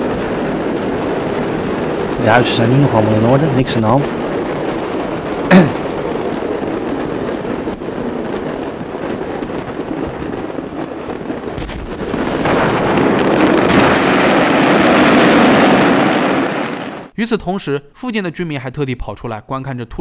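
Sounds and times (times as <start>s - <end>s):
fireworks crackling and popping: 0.0s - 17.1s
loud firework bang: 0.0s - 17.1s.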